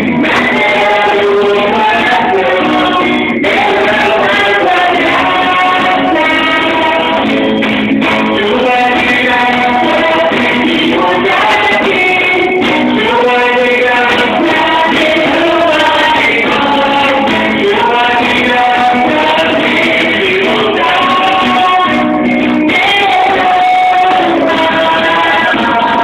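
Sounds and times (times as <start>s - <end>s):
instrumental accompaniment: 0.0s - 26.0s
voices singing worship song: 0.0s - 26.0s.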